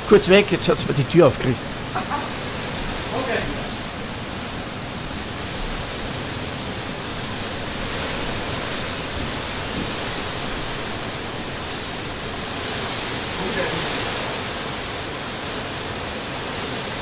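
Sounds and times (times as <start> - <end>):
strong wind buffeting microphone: 0.0 - 16.7.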